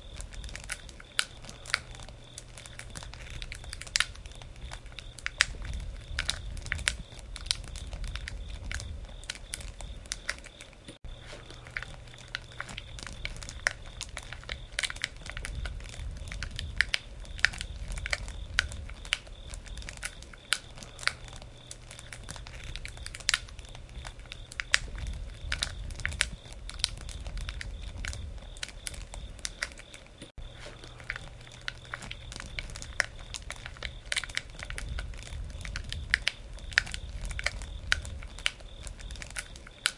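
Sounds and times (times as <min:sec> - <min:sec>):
campfire crackling: 0:00.0 - 0:39.9
low rumble of flames: 0:00.0 - 0:39.9.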